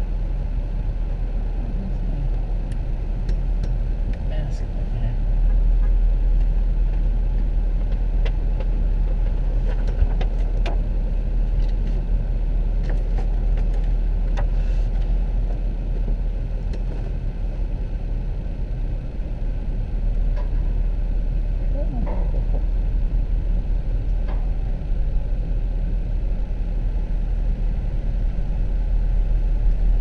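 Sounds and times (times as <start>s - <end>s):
car engine and road rumble: 0.0s - 30.0s.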